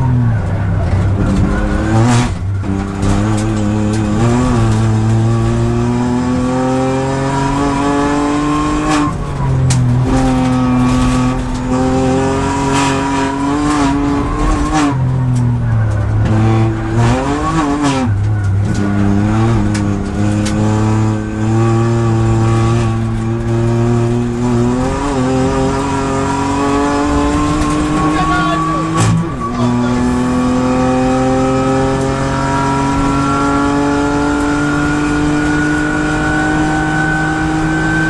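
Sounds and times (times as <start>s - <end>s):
race car engine from inside: 0.0s - 38.0s.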